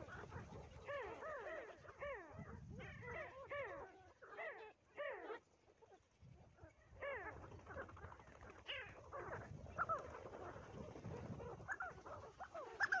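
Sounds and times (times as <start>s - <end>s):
flock of birds calling: 0.0s - 5.4s, 6.9s - 13.0s.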